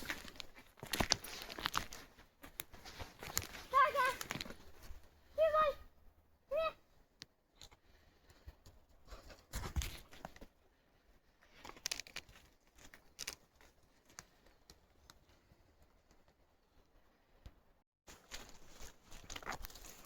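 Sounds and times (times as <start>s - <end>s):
rustling and crinkling: 0.0s - 5.3s, 7.6s - 16.9s, 18.1s - 20.0s.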